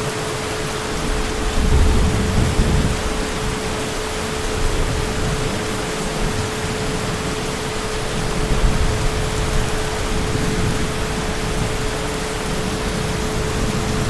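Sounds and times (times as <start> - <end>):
heavy rain hissing: 0.0 - 14.0
low thunder rumble: 0.9 - 14.0.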